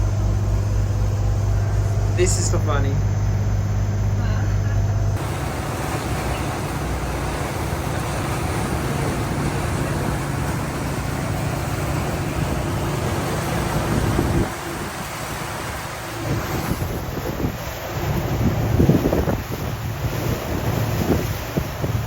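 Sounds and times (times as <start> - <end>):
boat engine drone: 0.0 - 22.0
water rushing: 0.0 - 22.0
wind: 0.0 - 22.0.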